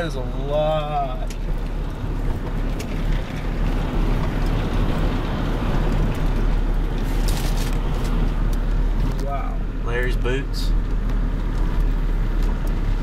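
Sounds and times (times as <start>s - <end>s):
car interior engine and road noise: 0.0s - 13.0s.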